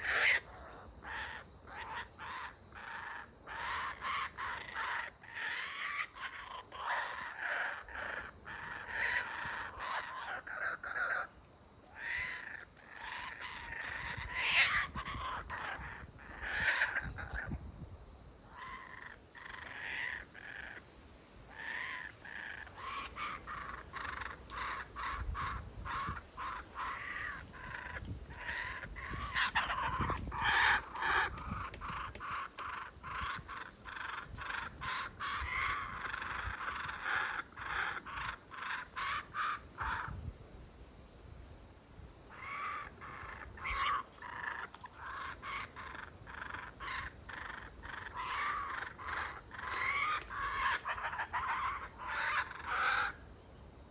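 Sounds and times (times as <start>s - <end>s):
kookaburras calling: 0.0s - 17.6s, 18.4s - 20.9s, 21.5s - 40.3s, 42.3s - 53.9s.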